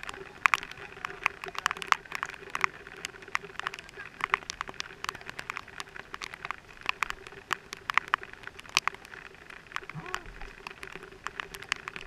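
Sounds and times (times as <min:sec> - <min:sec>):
raindrops ticking on camera housing: 0:00.0 - 0:12.0.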